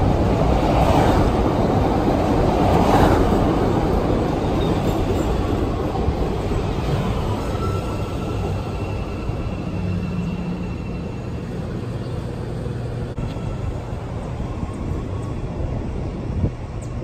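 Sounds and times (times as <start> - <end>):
train rumbling on rails: 0.0 - 17.0
faint train whine: 2.9 - 17.0.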